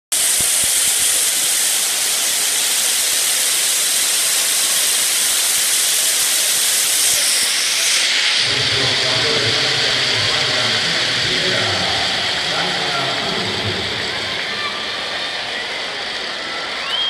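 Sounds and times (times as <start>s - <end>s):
crowd applauding and cheering: 0.1s - 17.0s.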